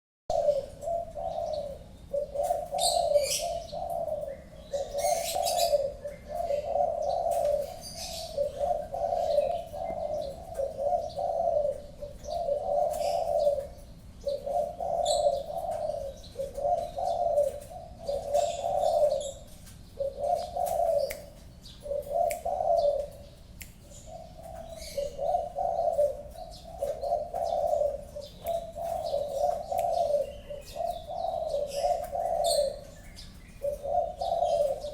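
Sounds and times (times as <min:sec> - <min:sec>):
dove cooing: 0:00.3 - 0:34.9
small birds chirping: 0:00.3 - 0:34.9.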